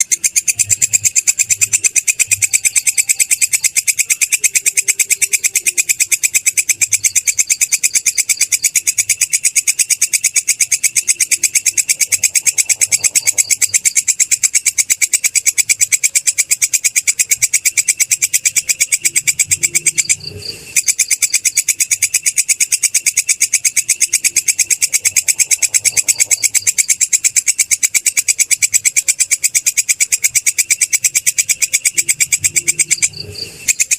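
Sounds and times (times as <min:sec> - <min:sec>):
katydid chirping: 0:00.0 - 0:33.9.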